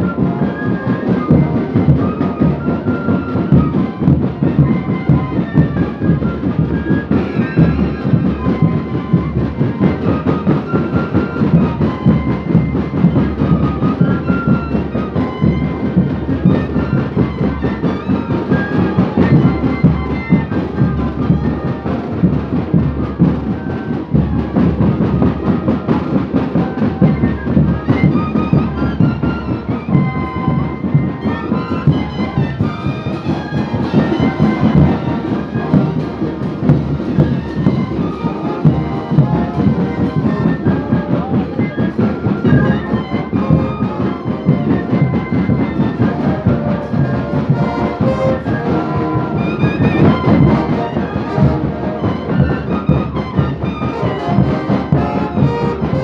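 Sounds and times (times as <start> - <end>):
brass band playing dance tune: 0.0 - 56.0
trumpets and trombones melody: 0.0 - 56.0.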